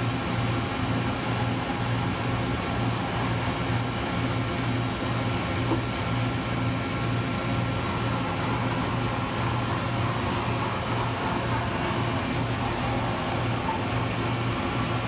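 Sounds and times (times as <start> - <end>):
pulsing machinery hum: 0.0 - 15.0.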